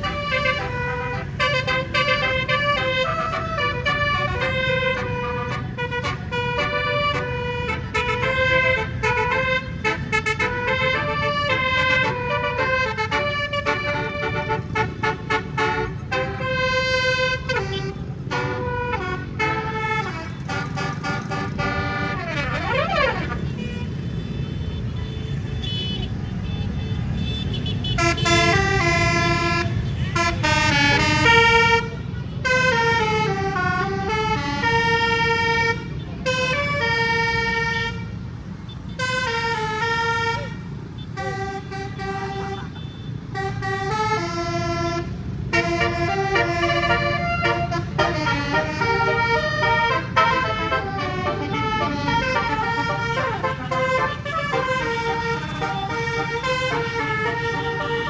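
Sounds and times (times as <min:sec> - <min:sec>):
musical air horn playing a tune: 0:00.0 - 0:23.6, 0:27.9 - 0:38.2, 0:39.0 - 0:40.6, 0:41.2 - 0:58.0
engine and road rumble: 0:00.0 - 0:58.0.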